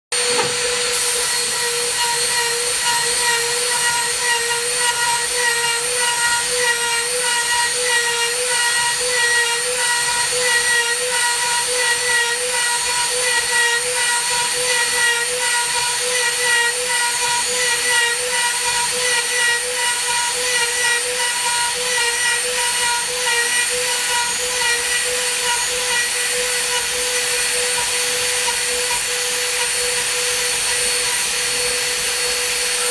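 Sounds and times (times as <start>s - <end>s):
cnc router cutting wood: 0.1s - 32.9s.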